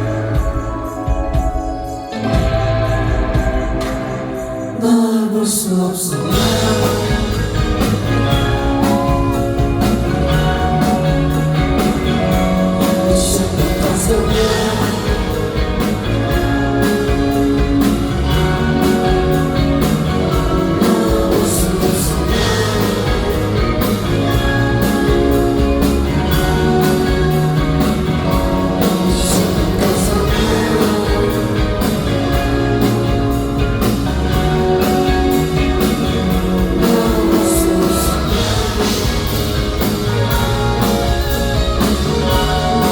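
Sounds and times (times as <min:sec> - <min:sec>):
live rock band playing: 0:00.0 - 0:05.6, 0:06.2 - 0:42.9.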